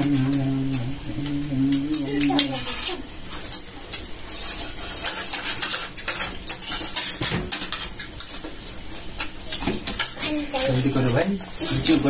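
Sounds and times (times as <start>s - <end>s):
plates and utensils clattering: 2.0s - 12.0s.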